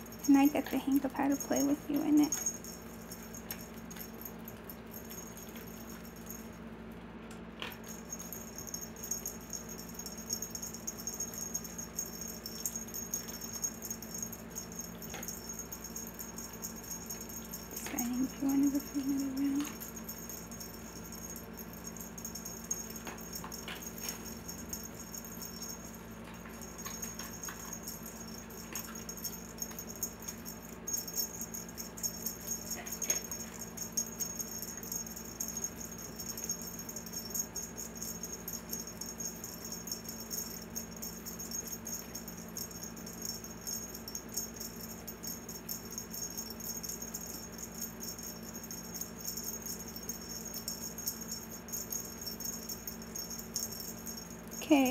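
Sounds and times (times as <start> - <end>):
toy rattling and jingling: 0.0 - 6.6, 7.6 - 54.9
low steady hum: 0.0 - 54.9.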